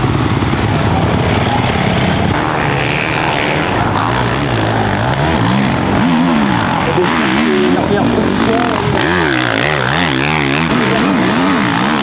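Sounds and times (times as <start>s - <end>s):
engine revving: 0.0s - 12.0s
motocross engines running: 0.0s - 12.0s.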